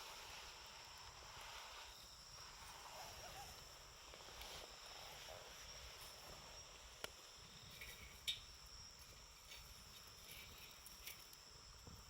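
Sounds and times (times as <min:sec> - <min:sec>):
high insect drone: 0:00.0 - 0:12.0
soft hiss: 0:00.0 - 0:12.0.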